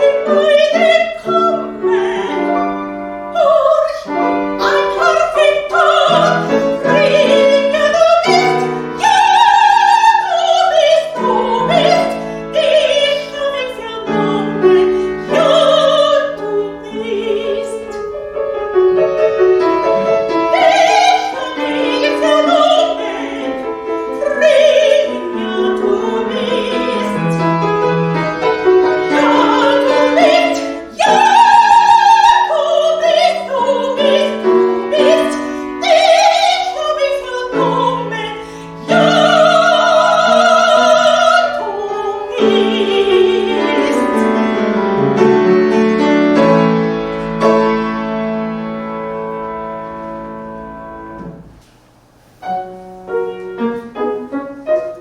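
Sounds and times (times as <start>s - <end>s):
soprano singing with vibrato: 0.0s - 46.7s
piano accompaniment: 0.0s - 55.0s.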